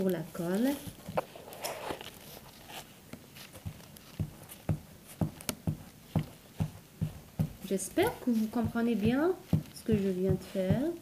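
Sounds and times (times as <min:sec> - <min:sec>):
glue stick rustling on paper: 0:00.0 - 0:11.0.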